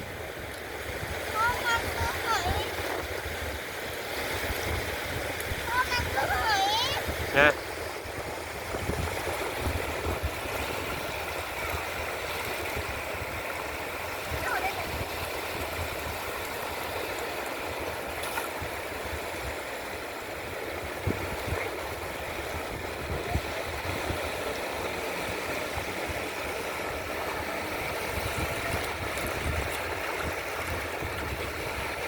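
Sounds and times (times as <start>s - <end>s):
sea water at shore: 0.0s - 32.0s
wind rumbling on microphone: 0.0s - 32.0s.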